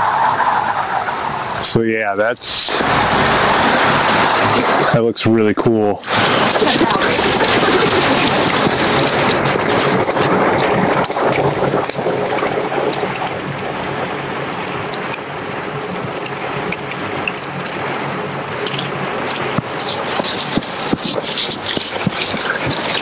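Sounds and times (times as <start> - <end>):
waterfall rushing and splashing: 1.2 - 5.0, 6.0 - 23.0.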